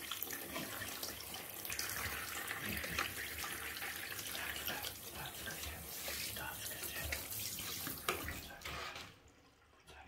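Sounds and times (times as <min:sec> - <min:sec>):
shower water spraying: 0:00.0 - 0:09.0.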